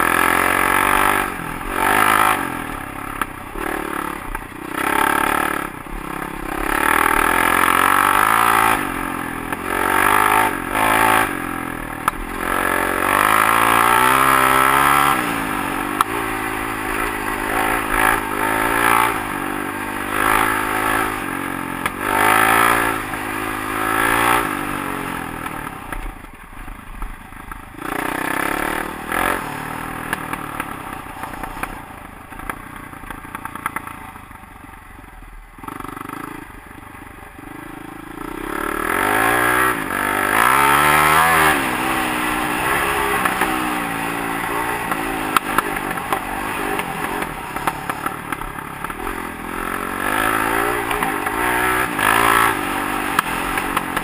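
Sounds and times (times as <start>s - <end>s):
dirt bike engine revving: 0.0s - 26.0s, 27.7s - 32.5s, 37.4s - 54.0s.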